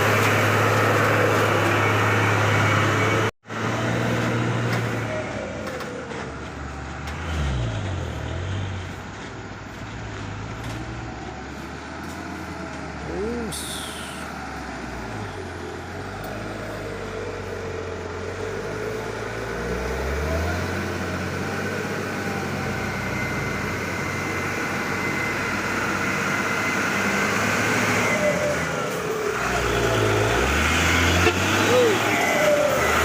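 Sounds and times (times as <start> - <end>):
heavy diesel truck engine: 0.0 - 33.0.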